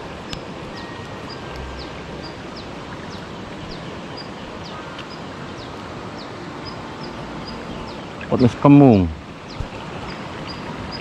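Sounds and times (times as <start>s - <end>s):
steady rushing hiss: 0.0s - 11.0s
bird chirping: 0.2s - 11.0s.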